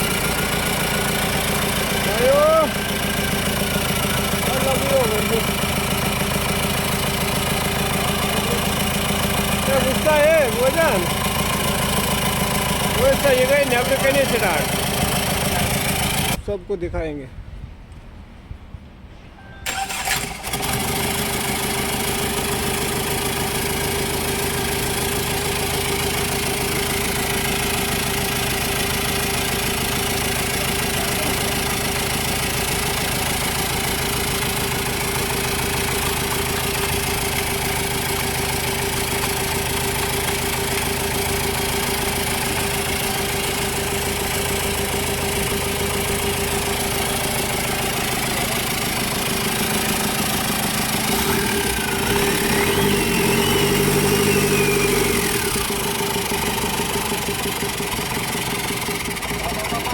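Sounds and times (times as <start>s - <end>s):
car engine idling: 0.0s - 16.5s, 19.7s - 59.9s.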